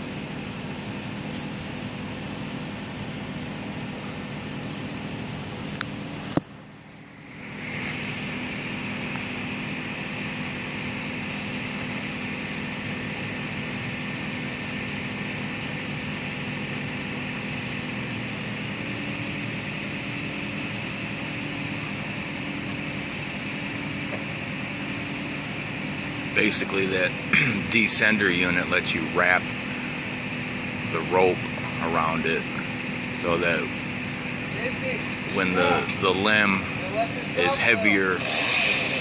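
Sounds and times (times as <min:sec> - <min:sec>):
engine running with hiss: 0:00.0 - 0:39.0.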